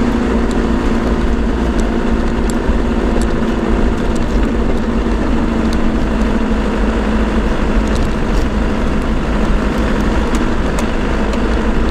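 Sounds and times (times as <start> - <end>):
engine and drivetrain noise: 0.0 - 11.9.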